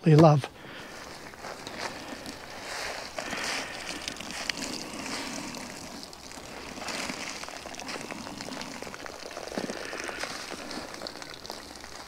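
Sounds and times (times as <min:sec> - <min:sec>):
water dripping into a tub: 0:00.7 - 0:12.0
wet shirt being wrung out: 0:00.9 - 0:12.0.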